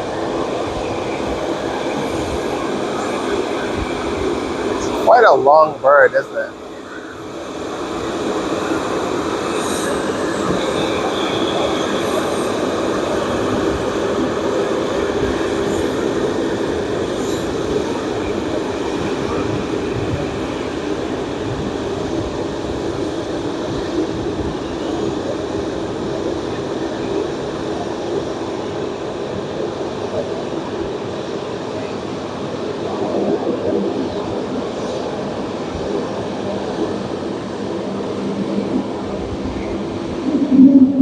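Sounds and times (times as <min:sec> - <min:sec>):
jet engines rumbling: 0:00.0 - 0:41.0.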